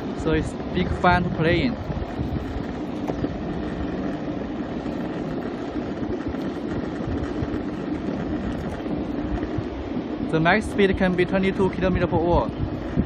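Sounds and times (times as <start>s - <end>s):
faint motor hum: 0.0s - 13.0s
skateboard wheels rolling on pavement: 0.0s - 13.0s.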